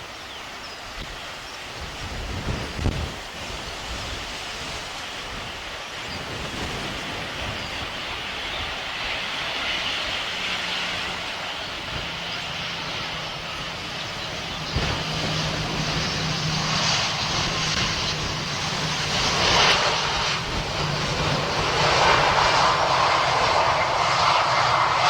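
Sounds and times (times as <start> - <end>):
airliner engine rushing hiss: 0.0 - 25.0.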